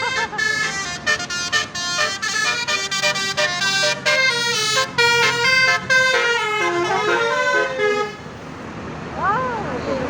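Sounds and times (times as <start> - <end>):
musical air horn playing a tune: 0.0 - 8.3.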